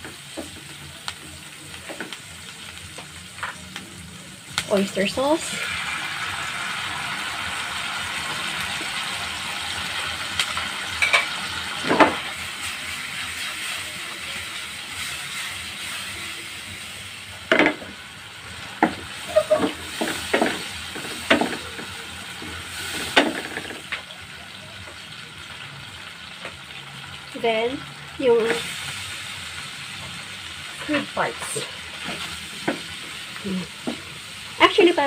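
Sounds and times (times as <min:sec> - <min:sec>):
food sizzling in a wok: 0:00.0 - 0:35.0.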